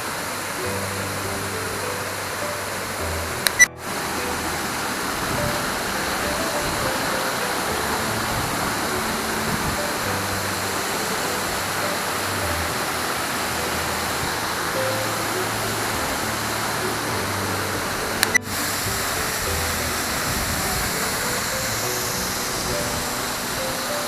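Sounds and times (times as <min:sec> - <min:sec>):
background music: 0:00.0 - 0:24.0
waterfall rushing: 0:00.0 - 0:24.0.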